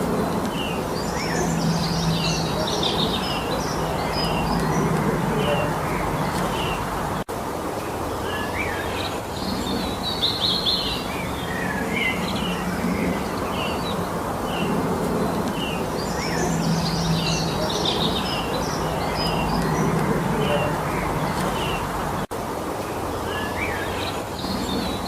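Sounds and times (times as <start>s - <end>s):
birds singing and chirping: 0.0s - 7.3s, 8.1s - 22.3s
steady background rush: 0.0s - 25.0s.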